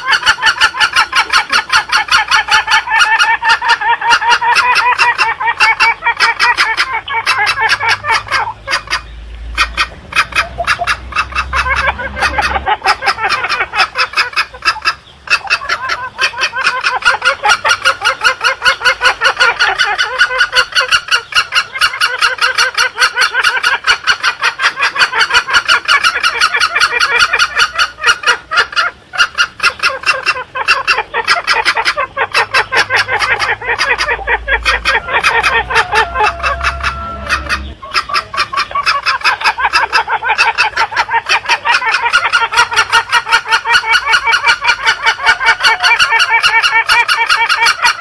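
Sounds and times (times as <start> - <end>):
junglefowl clucking calls: 0.0 - 48.0.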